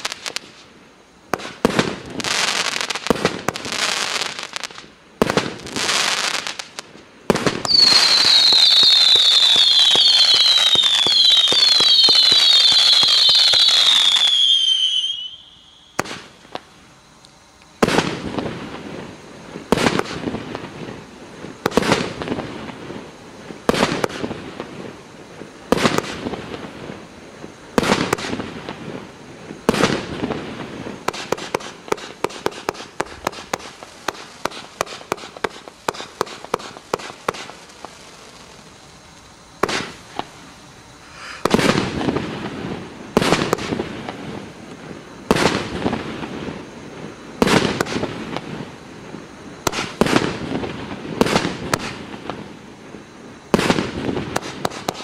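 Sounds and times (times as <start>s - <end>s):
small rapid firework shots: 0.0s - 17.0s, 17.7s - 55.0s
firework crackling: 0.0s - 55.0s
firework bangs: 1.3s - 16.7s, 17.8s - 55.0s.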